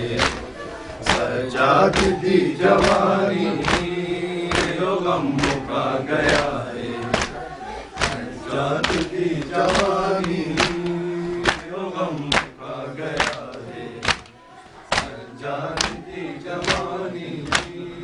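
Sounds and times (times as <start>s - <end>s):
men chanting a lament: 0.0s - 18.0s.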